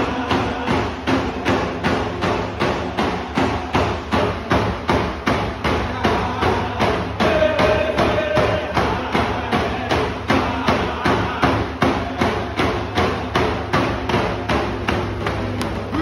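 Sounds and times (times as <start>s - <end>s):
frame drums beating: 0.0s - 16.0s.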